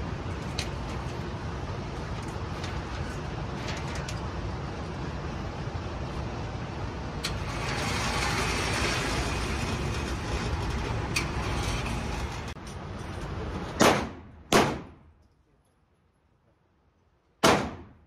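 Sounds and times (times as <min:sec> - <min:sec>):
ventilation rumble: 0:00.0 - 0:15.2.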